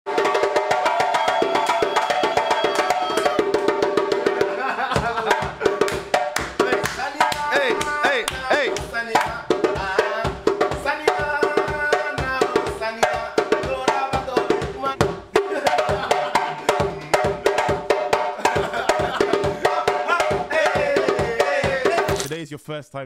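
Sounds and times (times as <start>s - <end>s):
hand drum beaten by hand: 0.1s - 22.2s
talking drum struck with stick: 0.1s - 22.3s.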